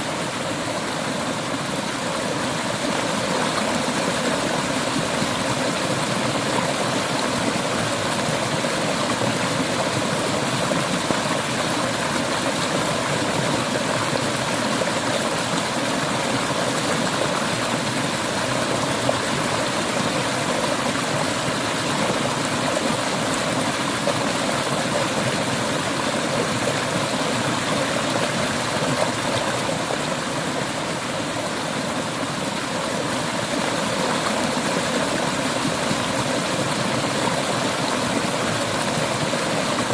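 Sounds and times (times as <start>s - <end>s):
river water flowing and splashing: 0.0s - 39.9s.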